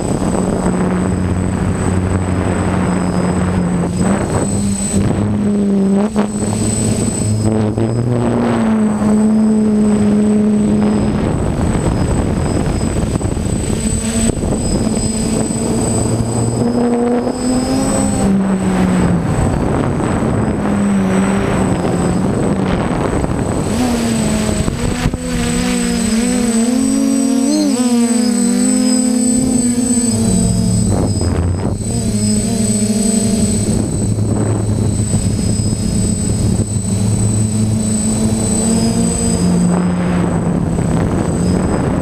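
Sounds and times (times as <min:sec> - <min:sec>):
drone motors whining: 0:00.0 - 0:42.0
wind rushing on microphone: 0:00.0 - 0:42.0.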